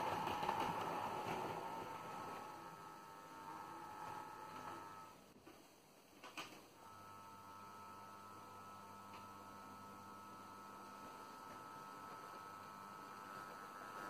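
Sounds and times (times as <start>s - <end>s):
model train motor humming: 0.0s - 5.2s, 6.8s - 14.0s.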